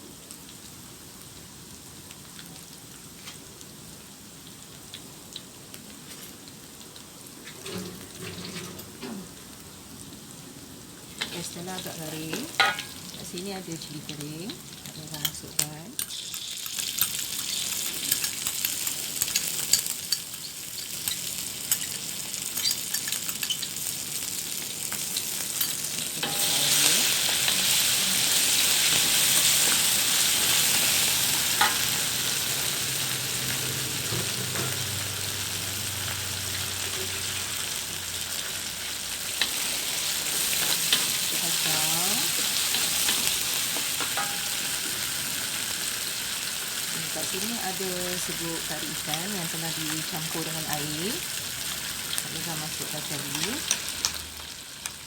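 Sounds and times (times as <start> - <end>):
chillies sizzling in hot oil: 0.0 - 55.0.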